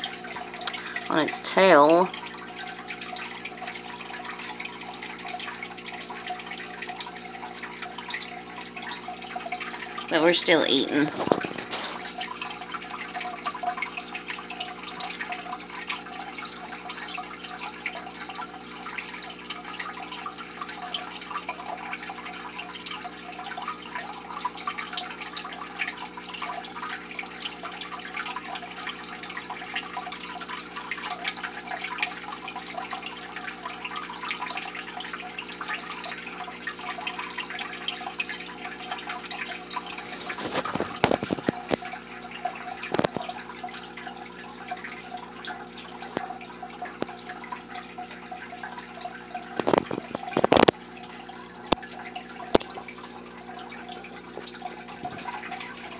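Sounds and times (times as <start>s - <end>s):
fine bubbling: 0.0s - 27.8s, 34.1s - 55.9s
aquarium water trickling: 0.0s - 55.9s.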